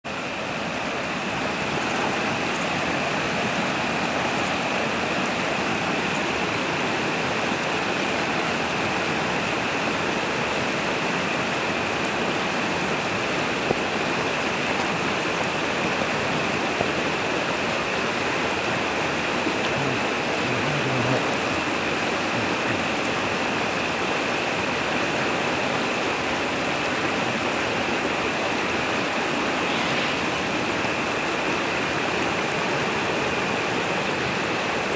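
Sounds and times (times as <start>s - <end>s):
water rushing over rapids: 0.1s - 34.9s.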